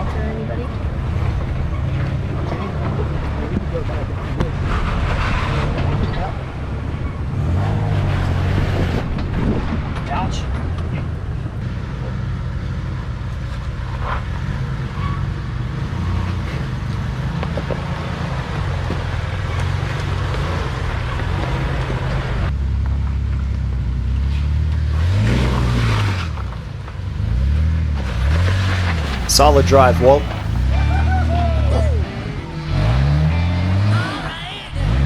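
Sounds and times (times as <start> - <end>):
off-road vehicle engine under load: 0.0 - 35.0.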